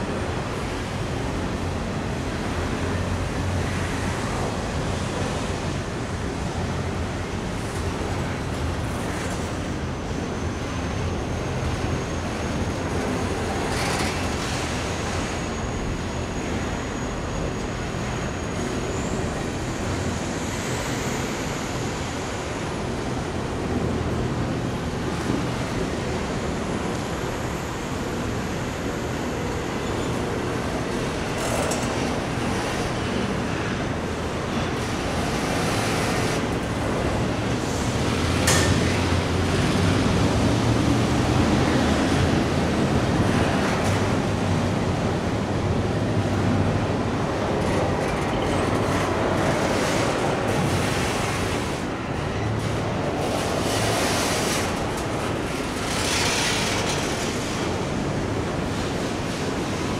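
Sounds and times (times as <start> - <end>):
freight train wheels rumbling on rail: 0.0 - 59.9
train clanks: 7.4 - 22.4, 23.0 - 42.5, 46.2 - 59.9.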